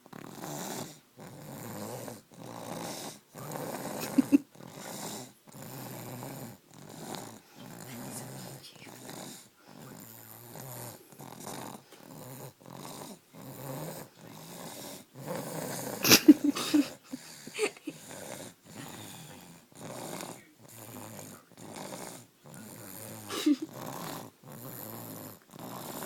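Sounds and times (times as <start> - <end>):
baby snoring: 0.0 - 26.0.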